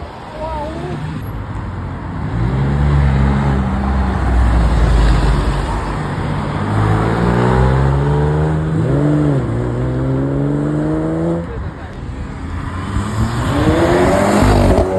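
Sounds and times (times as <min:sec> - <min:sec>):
loud car engines pulling away: 0:00.0 - 0:14.9
engine revving and accelerating: 0:02.2 - 0:14.9.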